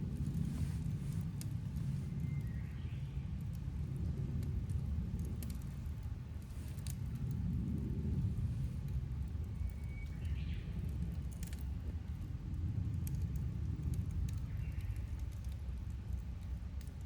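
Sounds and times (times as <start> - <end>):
low rumble: 0.0 - 15.2
campfire crackling: 0.0 - 17.0.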